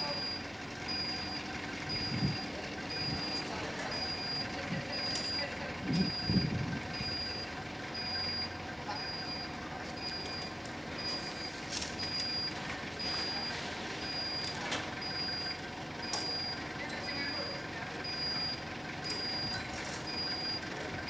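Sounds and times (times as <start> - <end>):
engine running: 0.0 - 21.0
forklift warning beeper: 0.0 - 21.0.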